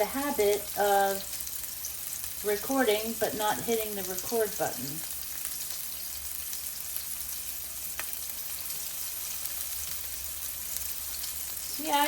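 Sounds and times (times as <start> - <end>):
meatballs sizzling in a pan: 0.0 - 12.0.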